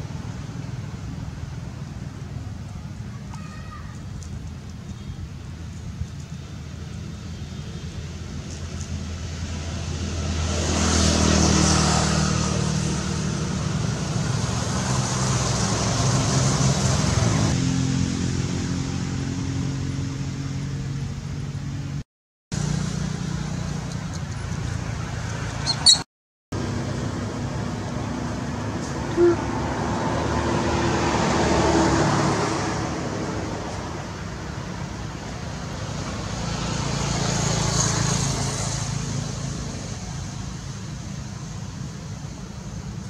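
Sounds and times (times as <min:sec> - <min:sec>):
vehicle engine humming: 0:00.0 - 0:43.0.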